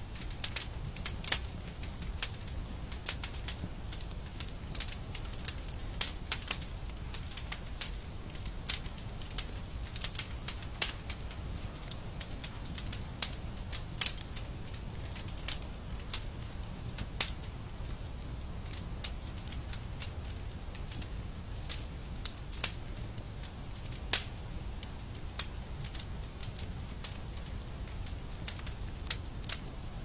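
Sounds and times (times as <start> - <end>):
fireplace fire crackling: 0.0 - 30.0.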